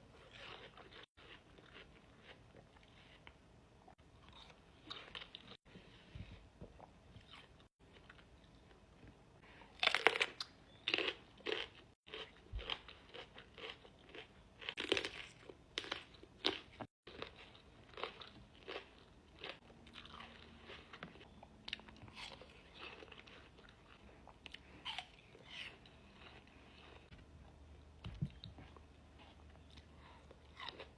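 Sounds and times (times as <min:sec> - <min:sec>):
person chewing crisp fruit: 0:00.0 - 0:30.9.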